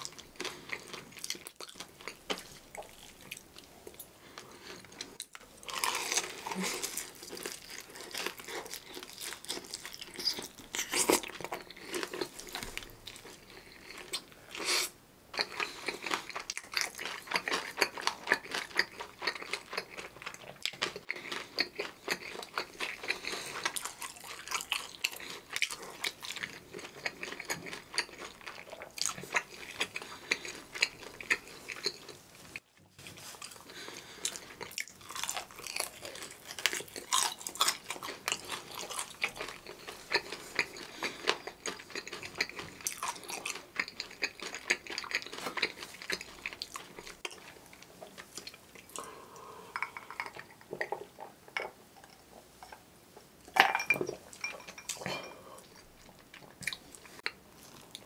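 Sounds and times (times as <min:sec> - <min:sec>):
chewing crunchy fried chicken: 0:00.0 - 0:50.8, 0:54.4 - 0:58.0.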